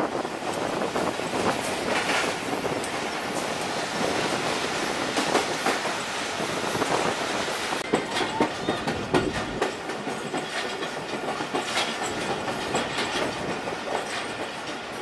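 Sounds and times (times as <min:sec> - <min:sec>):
train rolling rush: 0:00.0 - 0:15.0
train wheels clattering on track: 0:00.0 - 0:15.0.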